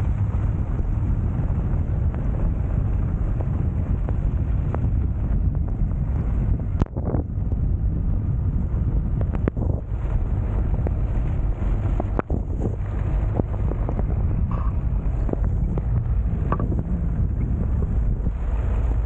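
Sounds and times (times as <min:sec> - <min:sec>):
van engine rumble: 0:00.0 - 0:19.0
wind buffeting microphone: 0:00.0 - 0:19.0.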